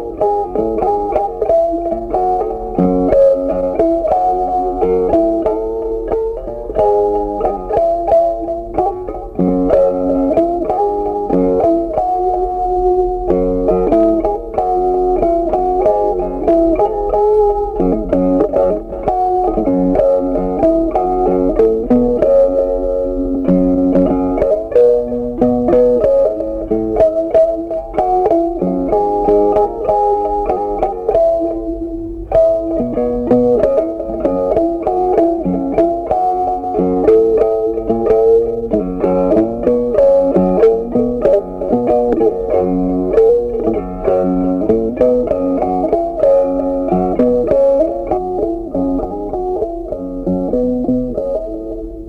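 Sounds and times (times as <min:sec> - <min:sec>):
plucked string melody: 0:00.0 - 0:52.0.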